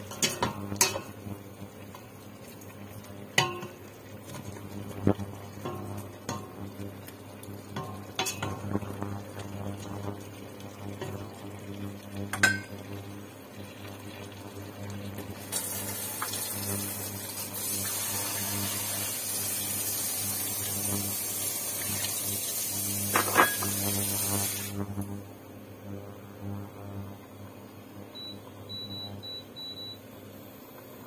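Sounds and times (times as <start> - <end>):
chicken sizzling: 0.0 - 25.2.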